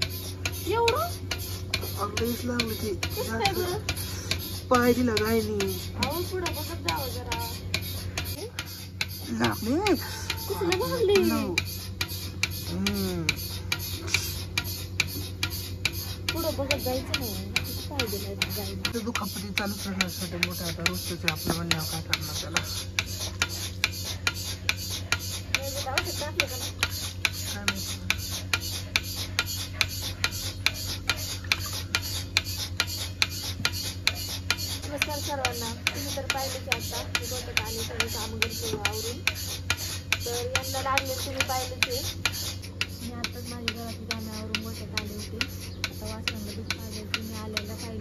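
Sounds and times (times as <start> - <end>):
milking machine low hum: 0.0 - 48.0
milking machine pulsator clicking: 0.0 - 48.0.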